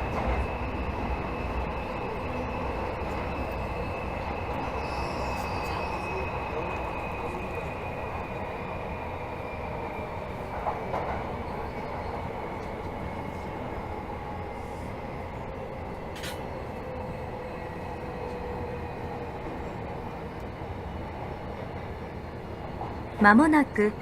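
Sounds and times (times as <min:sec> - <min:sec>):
faint train whine: 0:00.0 - 0:24.0
subway train rumble: 0:00.0 - 0:24.0.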